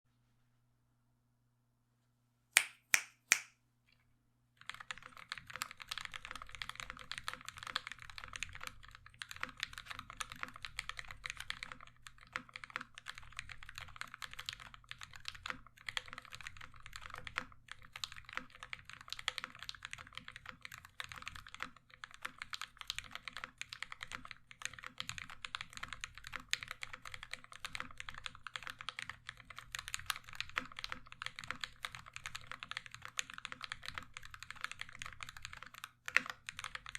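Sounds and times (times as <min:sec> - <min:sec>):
fast typing on mechanical keyboard: 0:04.6 - 0:36.9.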